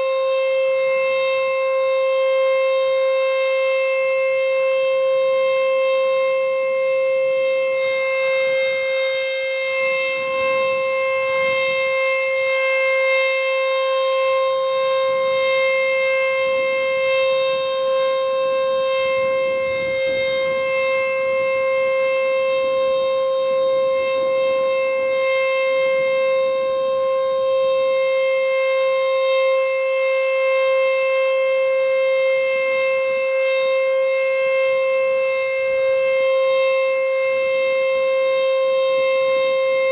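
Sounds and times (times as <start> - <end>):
warning siren steady wail: 0.0 - 39.9.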